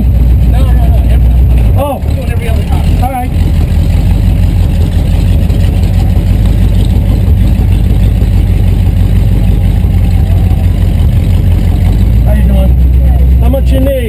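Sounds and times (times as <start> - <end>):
pickup truck engine running: 0.0 - 14.0.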